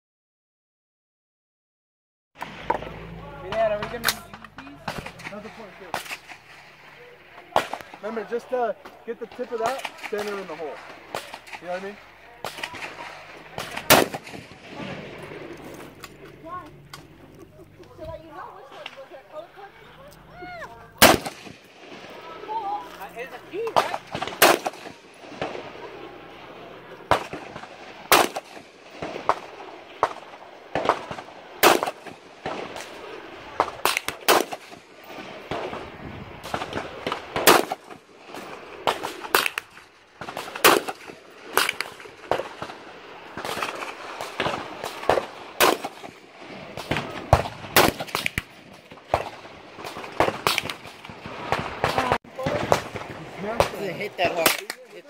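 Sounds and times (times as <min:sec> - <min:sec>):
distant gunshots: 0:02.4 - 0:16.2, 0:20.9 - 0:54.8
rifle shots: 0:02.4 - 0:16.3, 0:20.9 - 0:22.6, 0:23.5 - 0:54.9.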